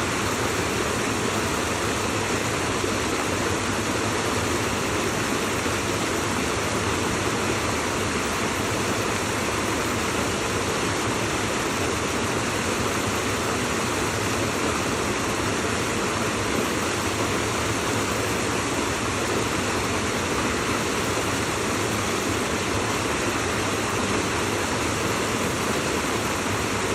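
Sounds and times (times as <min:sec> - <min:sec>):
rushing water: 0:00.0 - 0:26.9.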